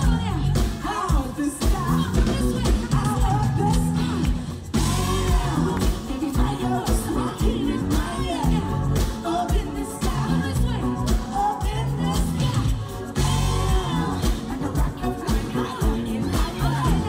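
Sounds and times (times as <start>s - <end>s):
band with a steady beat: 0.0s - 17.0s
woman singing into a microphone: 0.0s - 17.0s.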